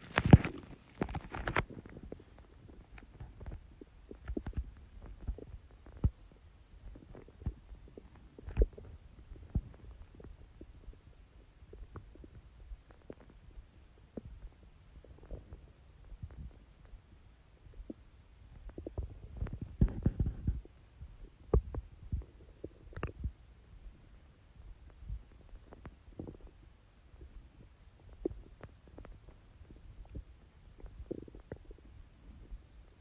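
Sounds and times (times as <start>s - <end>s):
stomach growling and gurgling: 0.0s - 33.0s.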